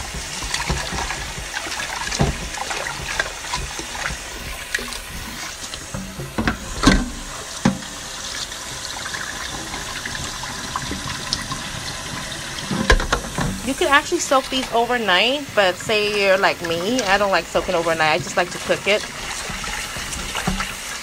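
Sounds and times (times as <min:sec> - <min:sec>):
water sloshing in a pot: 0:00.0 - 0:21.0.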